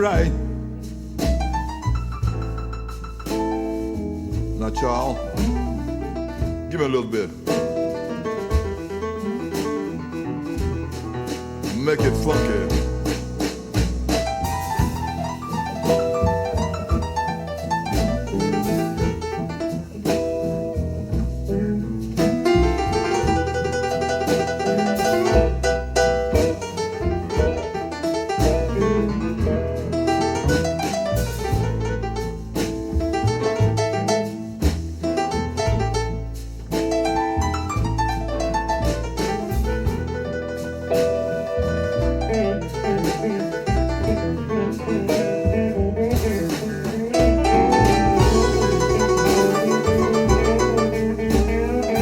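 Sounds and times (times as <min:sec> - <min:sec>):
funky blues keyboard solo: 0:00.0 - 0:52.0.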